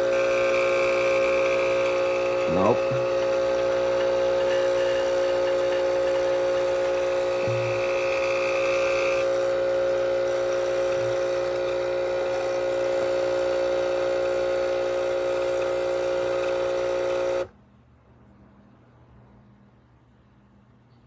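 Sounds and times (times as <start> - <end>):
espresso machine pump humming: 0.0 - 17.5.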